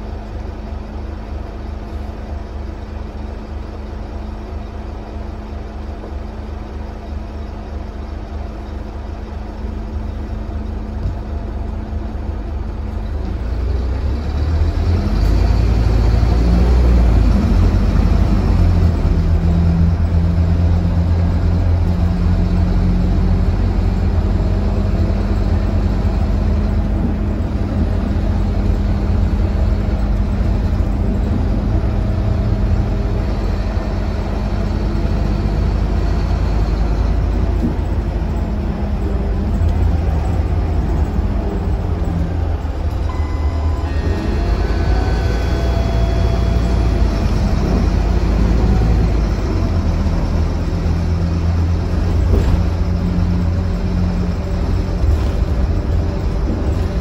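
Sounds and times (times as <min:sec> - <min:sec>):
bus diesel engine: 0:00.0 - 0:57.0.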